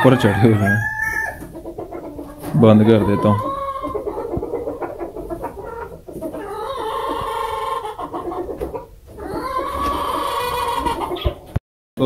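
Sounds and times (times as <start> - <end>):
warbling hen call: 0.0 - 11.4
hens clucking: 0.0 - 11.6.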